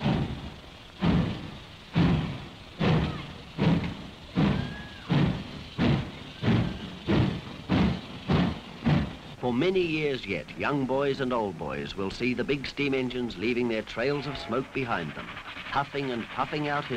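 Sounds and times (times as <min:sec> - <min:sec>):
steam locomotive exhaust chuffing: 0:00.0 - 0:16.9.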